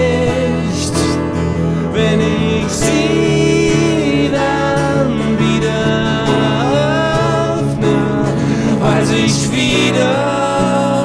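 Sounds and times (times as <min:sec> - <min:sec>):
bass guitar: 0:00.0 - 0:11.0
piano chords: 0:00.0 - 0:11.0
sliding lead melody: 0:00.0 - 0:11.0.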